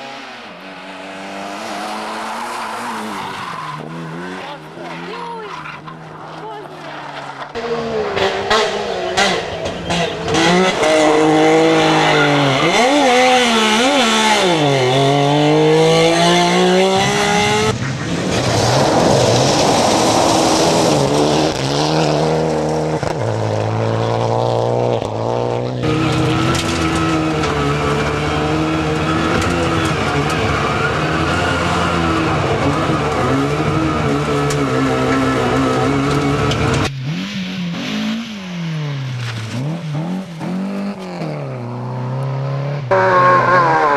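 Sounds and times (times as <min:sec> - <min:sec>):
rally car engines revving: 0:00.0 - 0:43.9
tyres skidding: 0:00.0 - 0:43.9.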